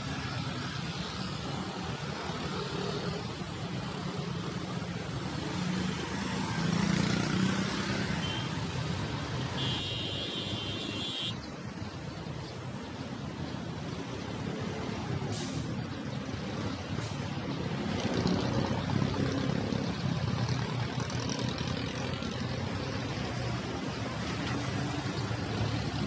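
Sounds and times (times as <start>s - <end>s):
bus driving past: 0.0s - 26.0s
city road traffic: 0.0s - 26.0s.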